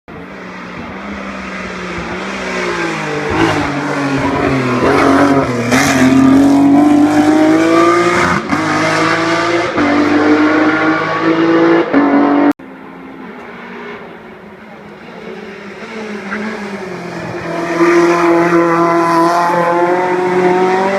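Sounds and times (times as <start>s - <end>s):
race car engine at full throttle: 0.1s - 20.9s.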